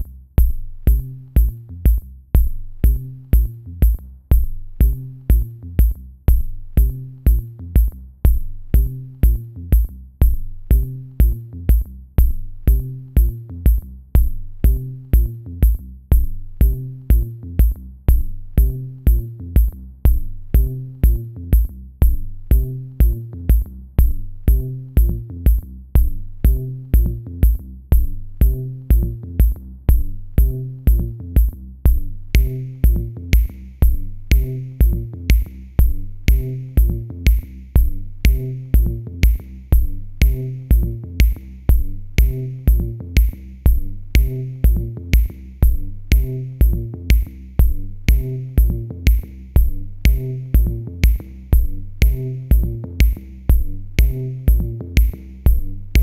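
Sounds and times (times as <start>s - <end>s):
electronic music with drum machine: 0.0s - 56.0s.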